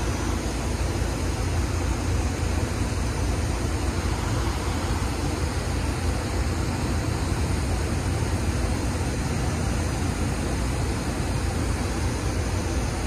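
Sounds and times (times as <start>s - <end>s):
electric train rushing hum: 0.0s - 13.0s.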